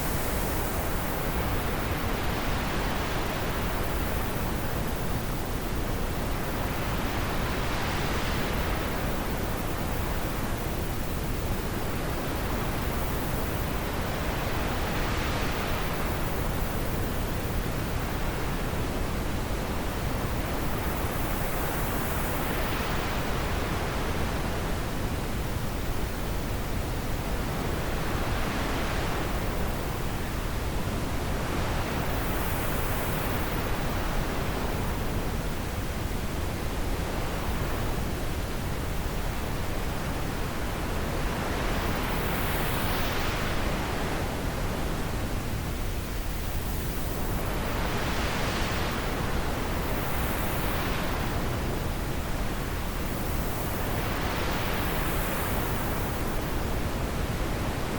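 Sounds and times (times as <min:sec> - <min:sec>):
wind gusting with a hiss: 0:00.0 - 0:57.9.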